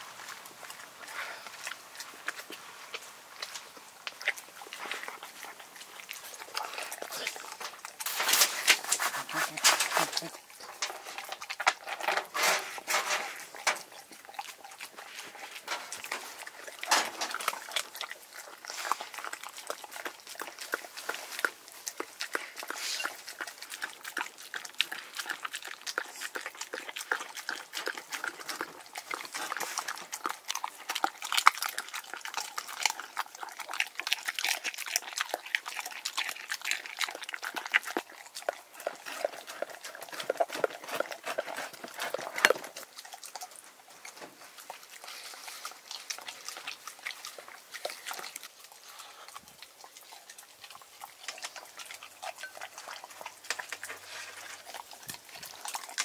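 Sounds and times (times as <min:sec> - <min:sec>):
dog eating wet food: 0:00.0 - 0:56.0.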